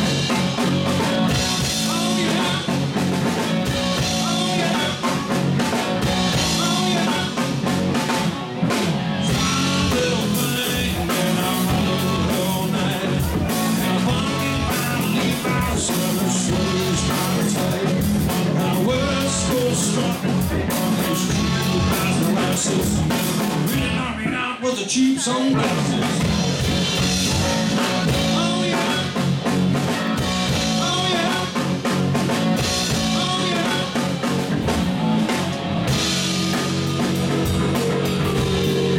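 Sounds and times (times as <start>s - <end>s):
drum kit: 0.0s - 24.3s, 25.5s - 38.9s
bass guitar: 0.0s - 38.9s
electric guitar: 0.0s - 38.9s.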